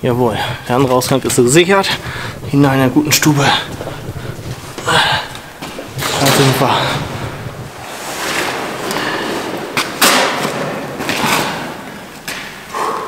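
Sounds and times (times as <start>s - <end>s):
backpack rustling and scraping: 0.4s - 12.2s.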